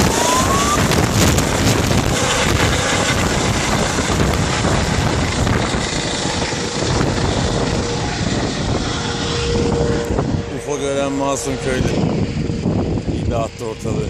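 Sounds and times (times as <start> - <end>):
helicopter rotor and turbine: 0.0 - 14.0
wind buffeting microphone: 0.0 - 14.0.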